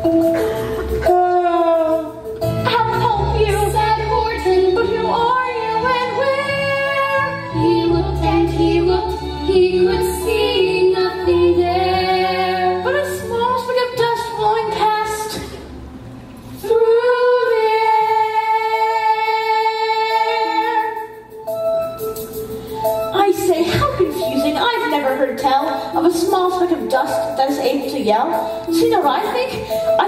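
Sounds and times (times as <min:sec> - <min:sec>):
instrumental accompaniment with bass: 0:00.0 - 0:30.0.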